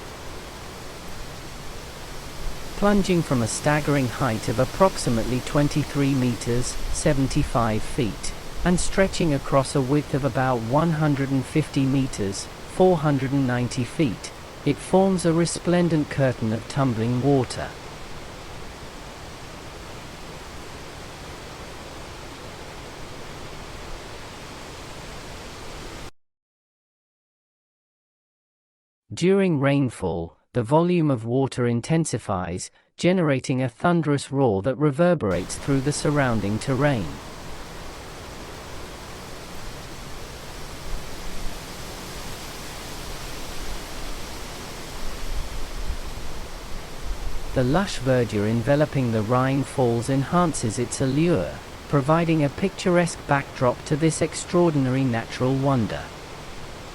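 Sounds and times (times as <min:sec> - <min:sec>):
waterfall thundering: 0:00.0 - 0:26.1, 0:35.3 - 0:56.9.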